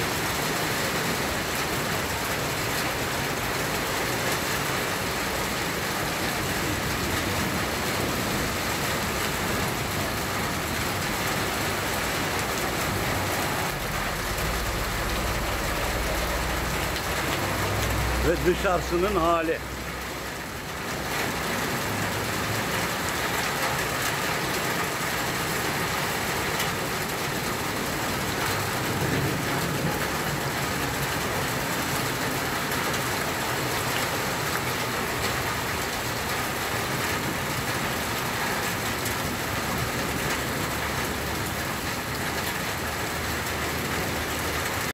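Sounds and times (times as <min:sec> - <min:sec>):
heavy rain on a flooded street: 0:00.0 - 0:44.9.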